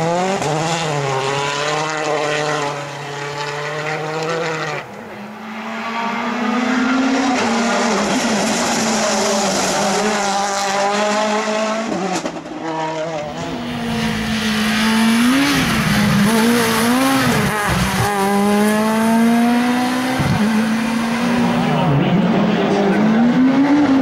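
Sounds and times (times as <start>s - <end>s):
rally car blipping and accelerating: 0.0s - 24.0s
rally car engine pulling hard: 0.0s - 24.0s.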